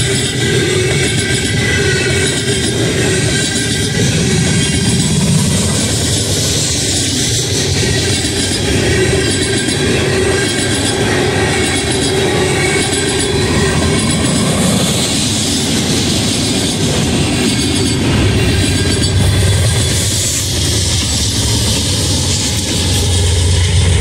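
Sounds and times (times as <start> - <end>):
diesel locomotive rumble: 0.0 - 24.0
high wheel squeal: 0.0 - 24.0
train wheels clattering on rails: 0.0 - 24.0.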